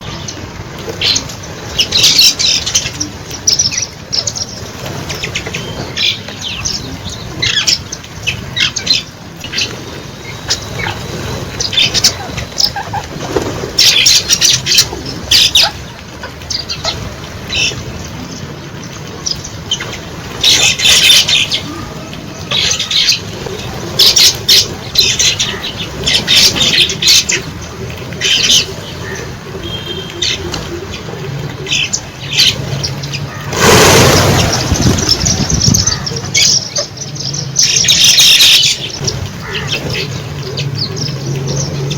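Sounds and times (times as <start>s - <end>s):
flock of birds squawking: 0.0s - 41.9s.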